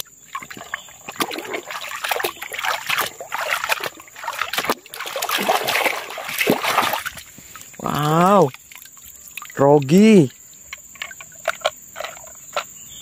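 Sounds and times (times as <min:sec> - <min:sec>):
muddy water splashing: 0:00.0 - 0:12.7.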